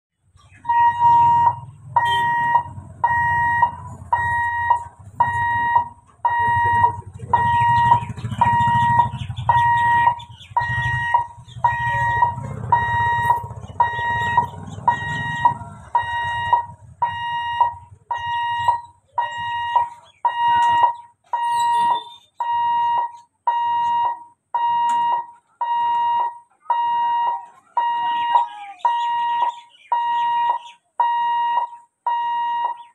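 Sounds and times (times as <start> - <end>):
level-crossing warning buzzer beeping: 0.6 - 32.9.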